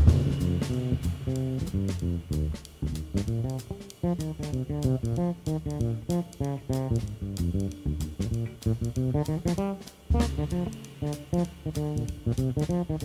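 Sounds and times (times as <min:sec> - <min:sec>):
drum kit with cymbals: 0:00.0 - 0:13.0
electric bass guitar run: 0:00.0 - 0:13.0.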